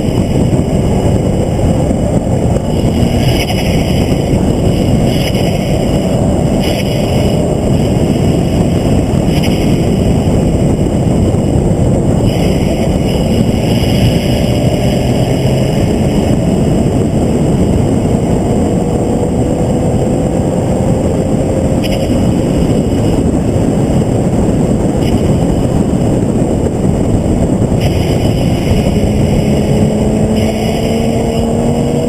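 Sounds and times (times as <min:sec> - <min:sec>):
race car engine: 0:00.0 - 0:32.0
wind and road noise: 0:00.0 - 0:32.0.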